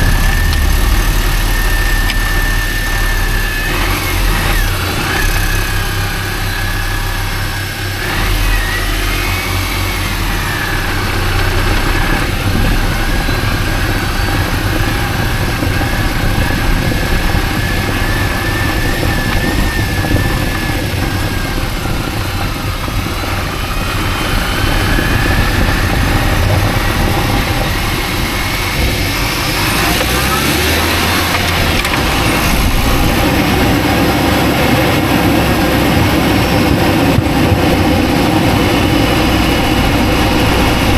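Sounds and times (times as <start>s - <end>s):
car engine running with whine: 0.0s - 40.9s.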